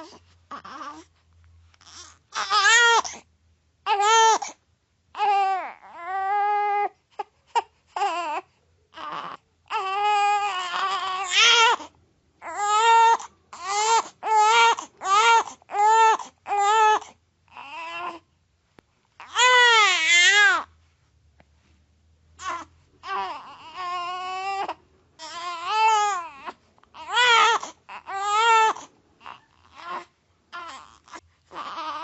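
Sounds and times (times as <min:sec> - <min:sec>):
baby crying: 0:00.0 - 0:01.1, 0:01.8 - 0:03.2, 0:03.9 - 0:04.6, 0:05.2 - 0:18.2, 0:19.2 - 0:20.7, 0:22.4 - 0:32.0.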